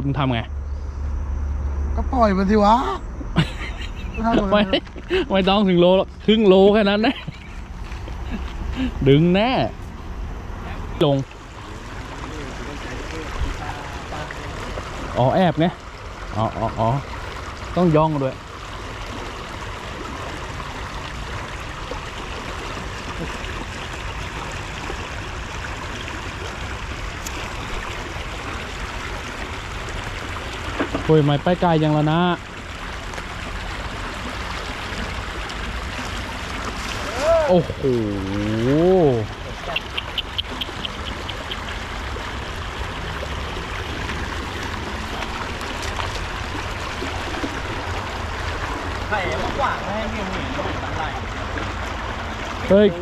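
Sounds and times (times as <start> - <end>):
water gushing from pipe: 4.3 - 53.0.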